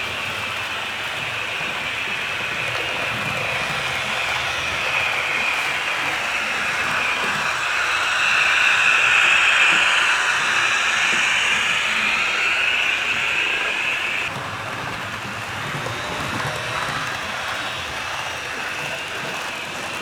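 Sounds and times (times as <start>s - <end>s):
model train running on track: 0.0s - 20.0s.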